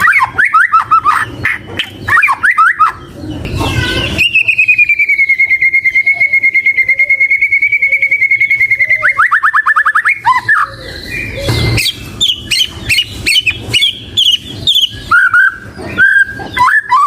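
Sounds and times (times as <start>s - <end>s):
songbird singing chirps and trills: 0.0s - 17.0s.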